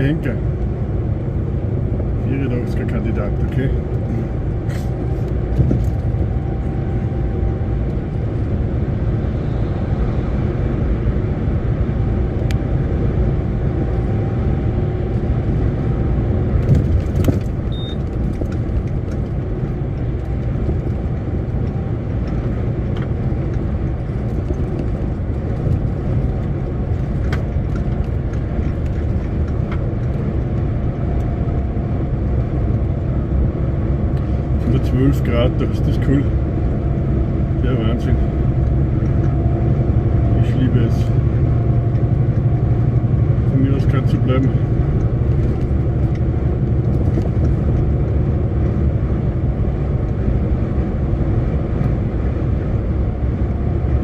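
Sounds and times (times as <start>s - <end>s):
heavy truck driving: 0.0s - 54.0s.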